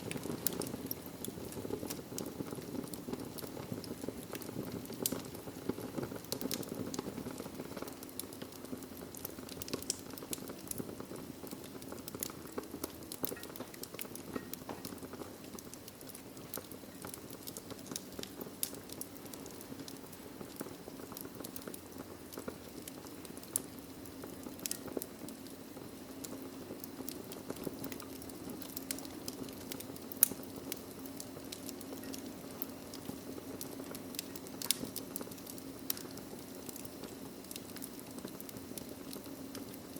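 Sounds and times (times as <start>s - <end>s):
fire crackling and snapping: 0.0s - 39.9s
fire flames rushing: 0.0s - 39.9s.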